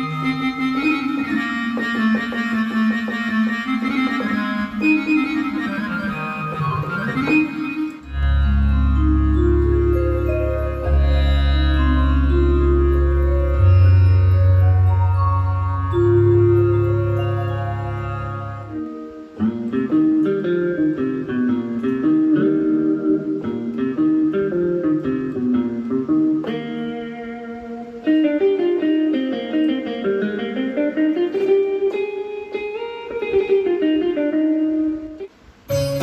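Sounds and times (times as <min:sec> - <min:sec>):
synthesizer plucked guitar-like notes: 0:00.0 - 0:36.0.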